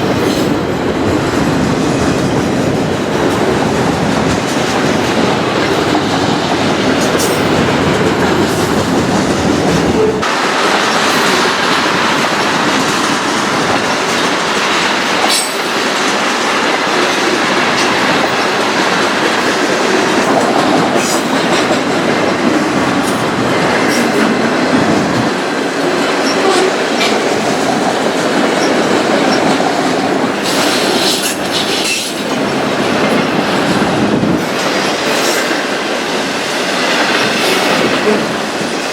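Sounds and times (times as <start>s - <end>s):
train rolling rumble: 0.0s - 38.9s
train wheels clacking over rail joints: 0.0s - 38.9s.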